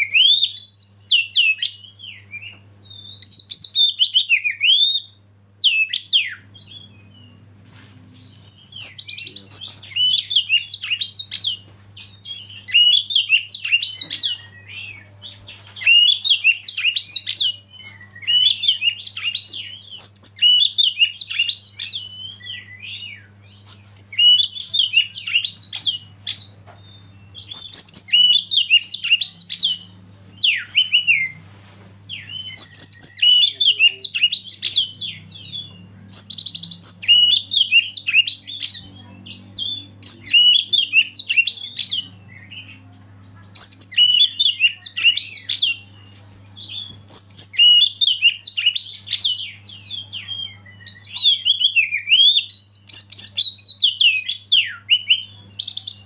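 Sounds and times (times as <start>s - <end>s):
bird singing whistled phrases: 0.0s - 7.4s, 8.7s - 31.4s, 32.0s - 42.8s, 43.4s - 45.9s, 46.6s - 56.0s
low steady hum: 0.0s - 55.8s.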